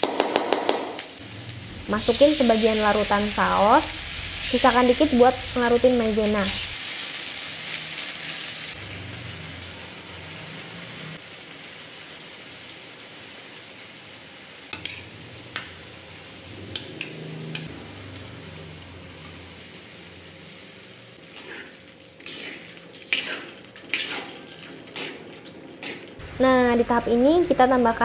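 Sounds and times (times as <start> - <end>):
sauce sizzling in wok: 0.1 - 28.0.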